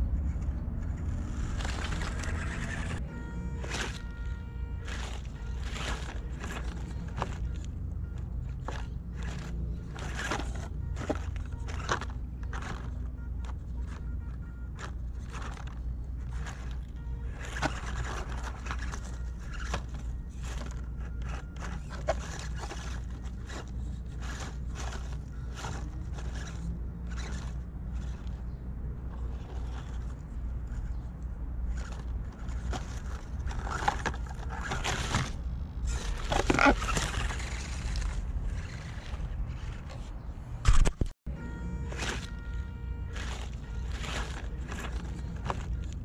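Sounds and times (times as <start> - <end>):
toy truck clicking and scraping: 0.0 - 41.1, 41.8 - 46.0
crunching over dry leaves: 1.2 - 31.1, 31.7 - 40.1, 41.8 - 46.0.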